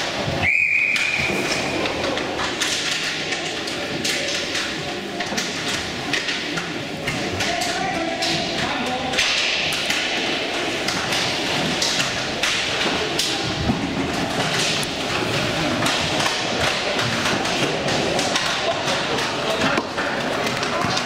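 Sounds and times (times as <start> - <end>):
hockey sticks and puck clacking: 0.0 - 21.0.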